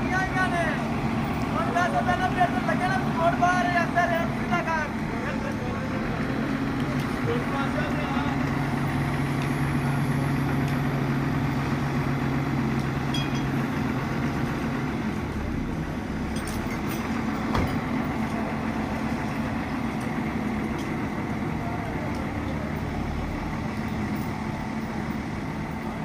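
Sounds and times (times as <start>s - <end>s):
crane diesel engine running: 0.0s - 26.0s.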